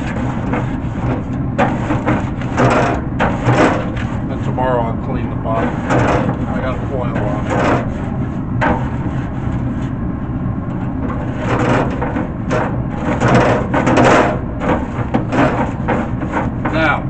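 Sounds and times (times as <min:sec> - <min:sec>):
grill brush scraping grates: 0:00.0 - 0:10.0, 0:10.7 - 0:17.0
steady low hum: 0:00.0 - 0:17.0.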